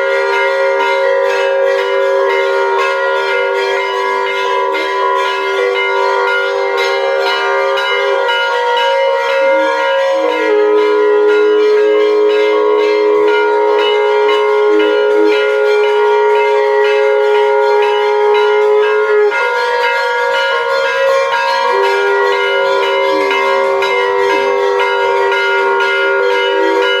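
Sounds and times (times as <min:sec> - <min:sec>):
conch shell blown: 0:00.0 - 0:27.0
hand bell ringing: 0:00.0 - 0:27.0.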